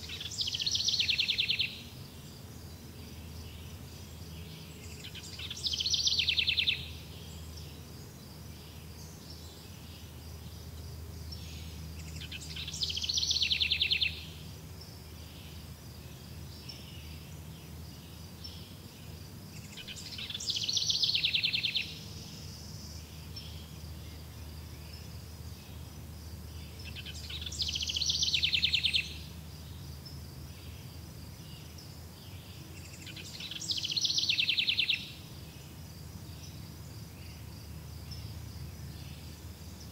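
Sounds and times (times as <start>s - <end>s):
high insect chirping: 0.0s - 39.9s.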